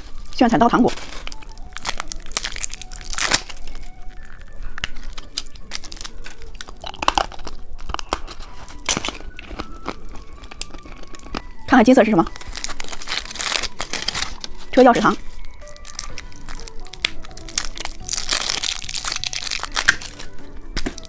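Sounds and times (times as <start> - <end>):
plastic wrapper crinkling: 0.0 - 21.0.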